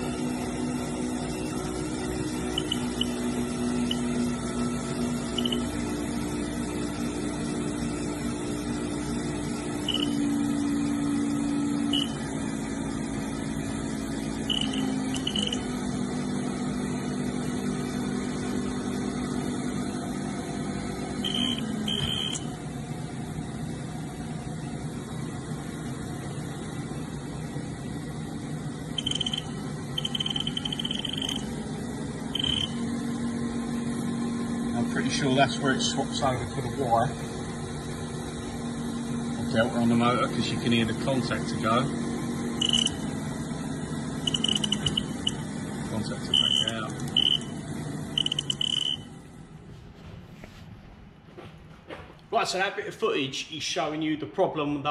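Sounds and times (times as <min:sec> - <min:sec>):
spindle motor humming: 0:00.0 - 0:49.6.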